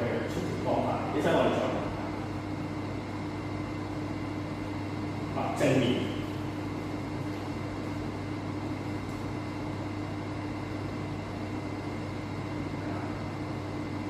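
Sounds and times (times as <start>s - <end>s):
room tone hum and hiss: 0.0s - 14.0s.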